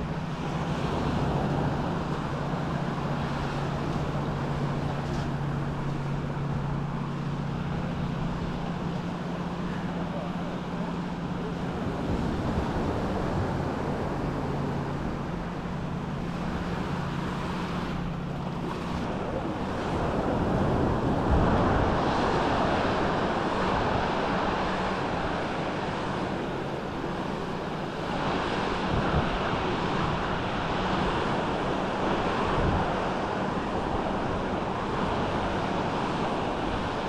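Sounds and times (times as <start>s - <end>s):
small waves washing onto sand: 0.0s - 37.0s
wind on microphone: 0.0s - 37.0s.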